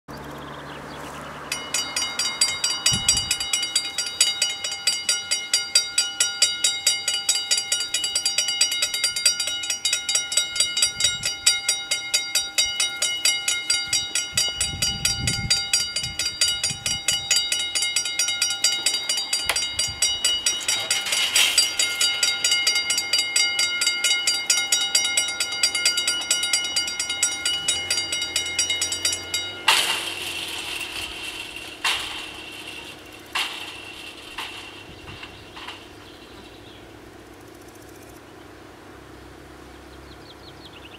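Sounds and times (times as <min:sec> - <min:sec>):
level crossing warning bells: 0:01.4 - 0:37.2.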